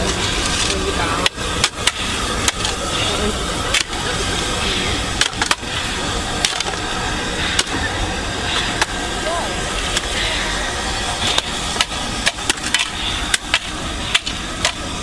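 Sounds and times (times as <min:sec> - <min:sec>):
steam train rumble: 0:00.0 - 0:15.0
wheels clicking over rail joints: 0:00.0 - 0:15.0.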